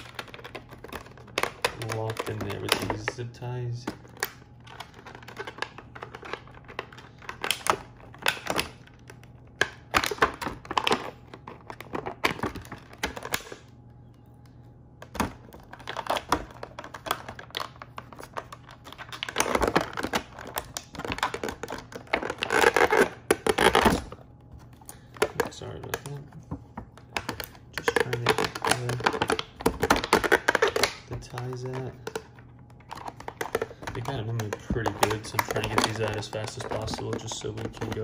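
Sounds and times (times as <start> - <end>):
plastic packaging crinkling: 0.0 - 38.0.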